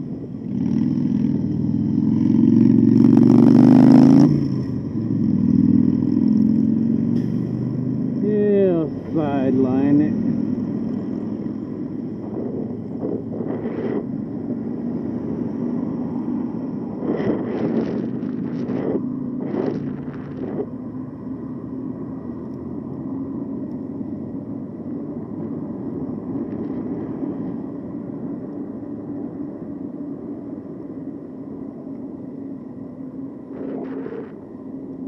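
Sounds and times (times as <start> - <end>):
wind and tyres on road: 0.0 - 35.0.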